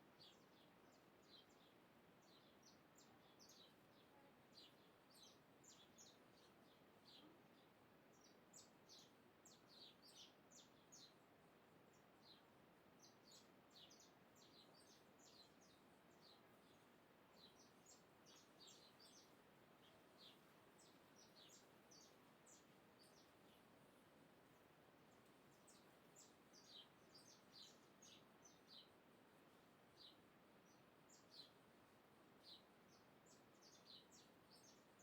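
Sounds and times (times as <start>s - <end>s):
faint birds chirping: 0.0s - 35.0s
steady low hiss: 0.0s - 35.0s.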